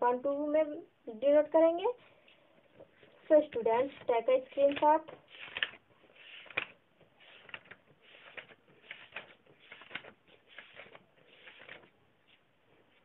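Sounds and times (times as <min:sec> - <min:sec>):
faint rustling and scraping: 0:01.9 - 0:13.0.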